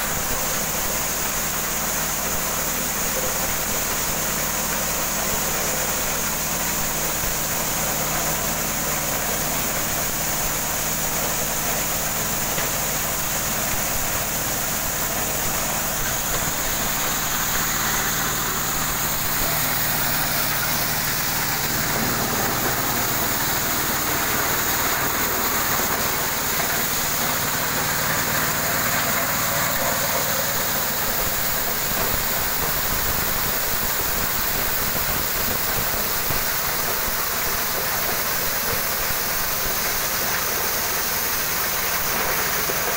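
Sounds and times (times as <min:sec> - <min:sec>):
corn rattling through sheller: 0:00.0 - 0:42.9
small engine running: 0:00.0 - 0:42.9.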